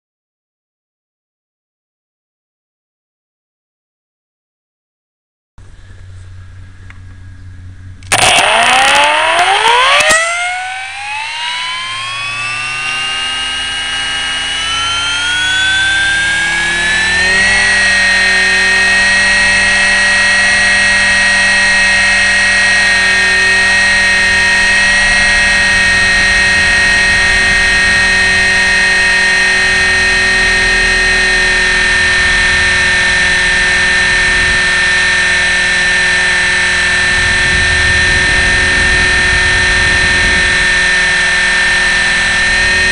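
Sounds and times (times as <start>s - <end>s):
helicopter rotors whining: 5.7s - 42.9s
loud burst of noise: 8.0s - 42.9s.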